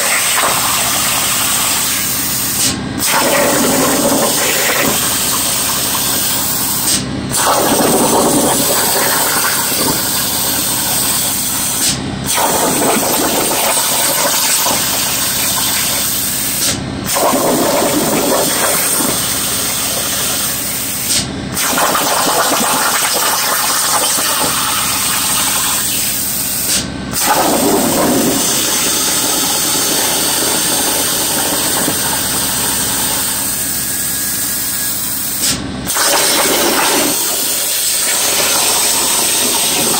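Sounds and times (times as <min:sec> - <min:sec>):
plasma torch arc hissing: 0:00.0 - 0:22.2, 0:22.9 - 0:39.9.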